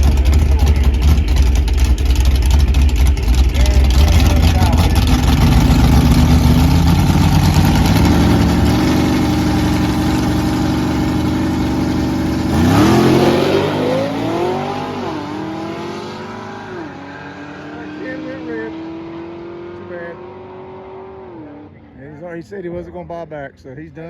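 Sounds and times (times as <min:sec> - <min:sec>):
engine revving with gear shifts: 0:00.0 - 0:21.8
race car engine at full throttle: 0:00.0 - 0:22.2.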